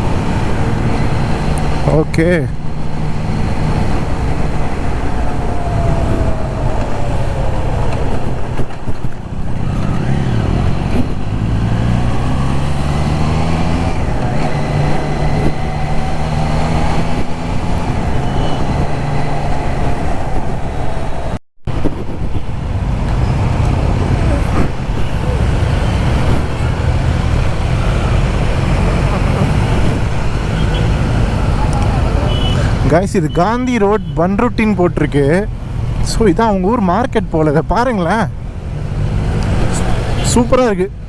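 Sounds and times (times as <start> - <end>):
motorcycle engine: 0.0 - 32.9
wind rush: 0.0 - 33.0.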